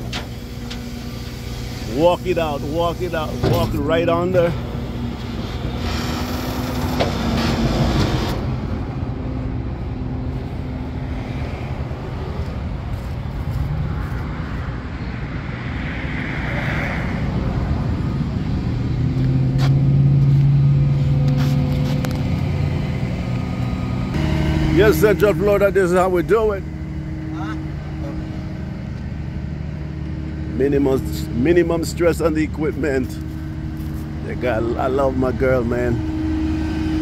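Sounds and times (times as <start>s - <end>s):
hydraulics moving: 0.0s - 14.6s, 18.6s - 37.0s
truck engine running: 0.0s - 15.5s, 17.3s - 37.0s.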